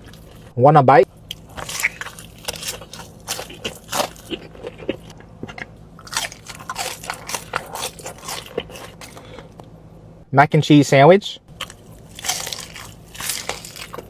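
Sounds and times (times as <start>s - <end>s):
person chewing crispy chicken: 0.0s - 0.5s, 1.2s - 9.6s, 11.5s - 14.0s.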